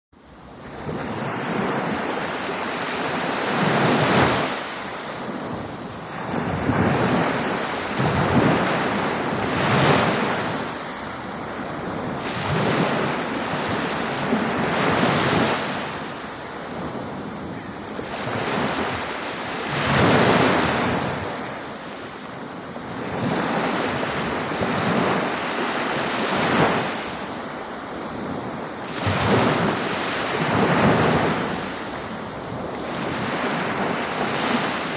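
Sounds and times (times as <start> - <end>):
ocean waves breaking: 0.2 - 34.9.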